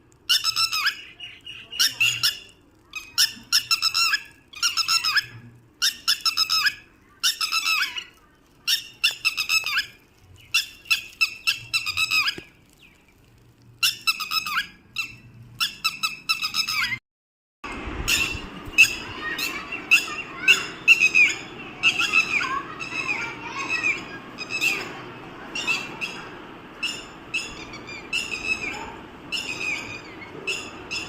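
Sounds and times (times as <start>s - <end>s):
pet bird squawking: 0.3s - 12.4s, 18.1s - 31.0s.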